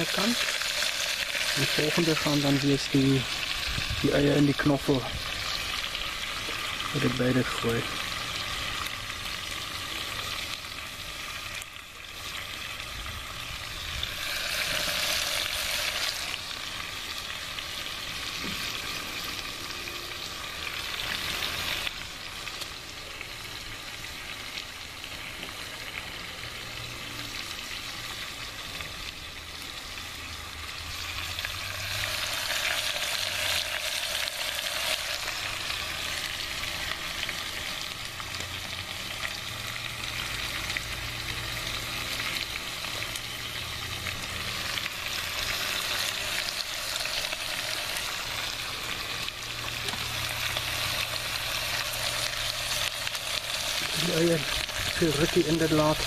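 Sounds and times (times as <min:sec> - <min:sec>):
meat and onions sizzling in oil: 0:00.0 - 0:56.0.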